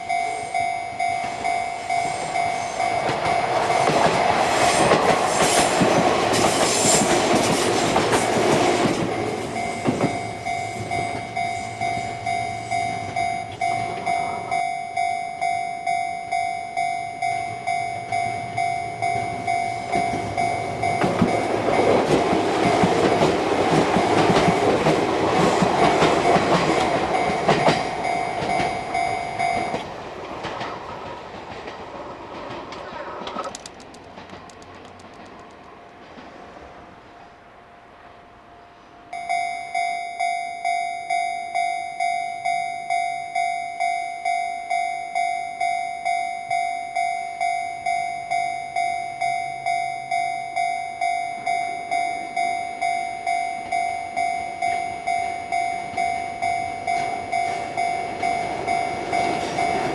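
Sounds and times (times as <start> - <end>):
level crossing warning bell: 0.0 - 31.2, 37.2 - 59.9
electric trains passing: 0.0 - 59.9.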